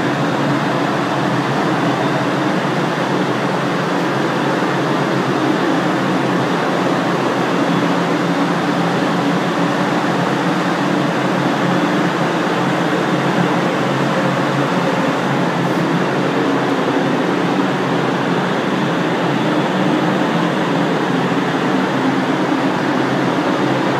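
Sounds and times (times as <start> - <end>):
ventilation fans rushing air: 0.0 - 23.9.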